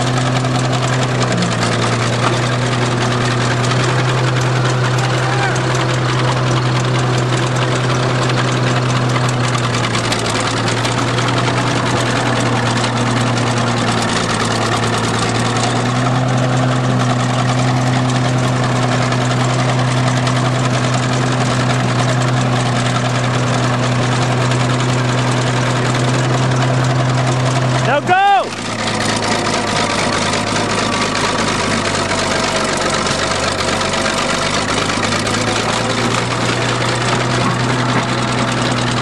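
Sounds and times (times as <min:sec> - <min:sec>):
bulldozer engine running: 0:00.0 - 0:39.0.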